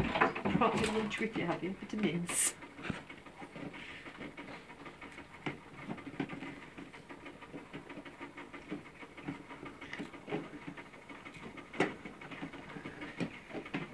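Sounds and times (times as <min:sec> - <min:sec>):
puppies eating from plastic bowls: 0:00.0 - 0:13.9.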